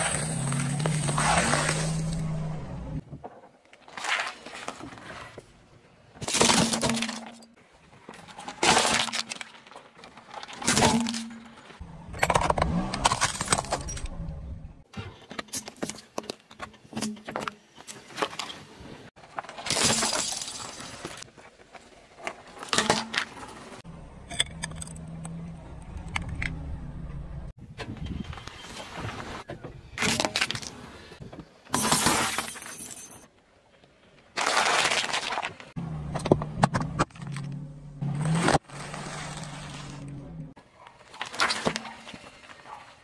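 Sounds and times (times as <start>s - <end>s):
gritty crackling under tread: 0.0s - 31.6s, 33.3s - 43.0s.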